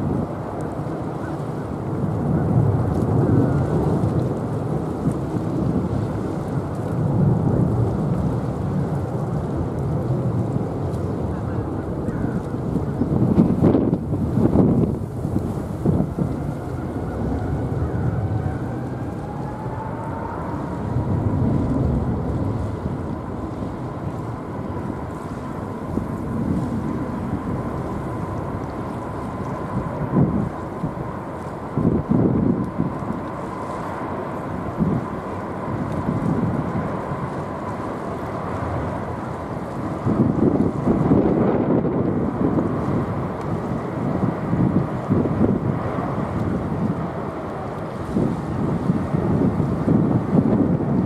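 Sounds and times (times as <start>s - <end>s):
jet engines low rumble: 0.0s - 51.0s
wind gusting across microphone: 0.0s - 51.0s.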